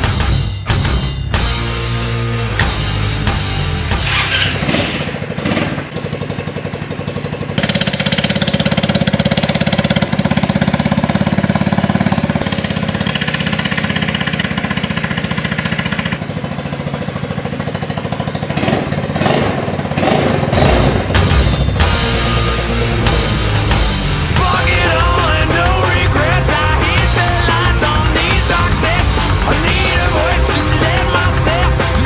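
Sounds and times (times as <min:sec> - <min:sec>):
scooter engine pulsing: 0:02.4 - 0:32.0.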